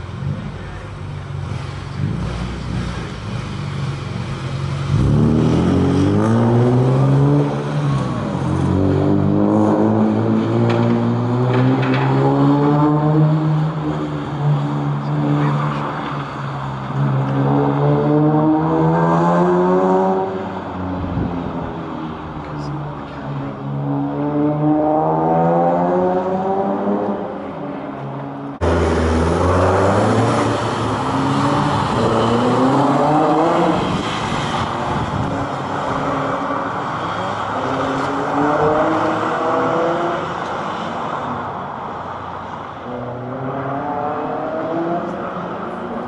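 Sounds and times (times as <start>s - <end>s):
cars accelerating past: 1.4s - 46.0s.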